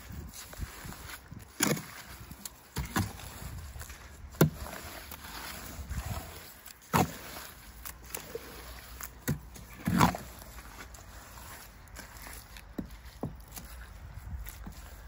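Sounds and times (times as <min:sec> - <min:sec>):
hoe churning wet mud: 0:00.0 - 0:15.0.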